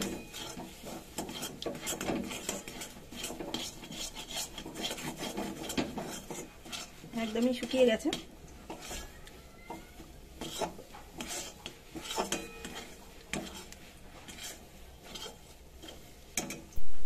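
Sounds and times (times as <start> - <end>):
metal spatula scraping metal pan: 0.0 - 16.7.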